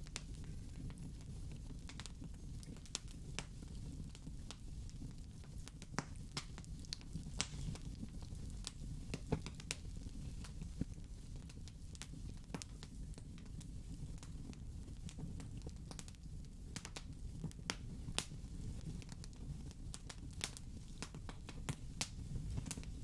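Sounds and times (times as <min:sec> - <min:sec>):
wood fire burning: 0:00.0 - 0:23.0.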